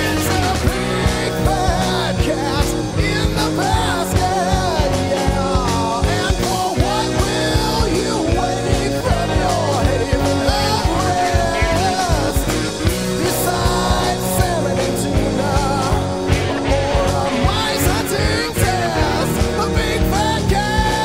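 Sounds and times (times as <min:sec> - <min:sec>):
bass: 0:00.0 - 0:21.0
bending lead melody: 0:00.0 - 0:21.0
steady drum beat: 0:00.0 - 0:21.0.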